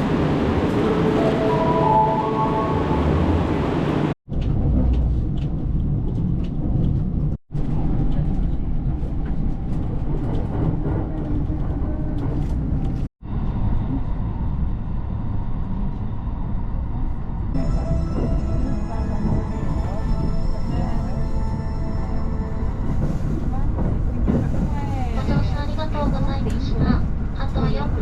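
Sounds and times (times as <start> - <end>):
train rumbling in motion: 0.0 - 28.0.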